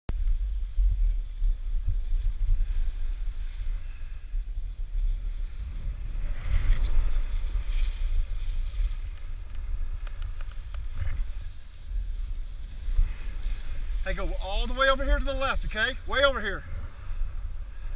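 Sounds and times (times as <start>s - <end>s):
wind buffeting microphone: 0.1s - 17.9s
skis scraping over snow: 0.4s - 17.9s.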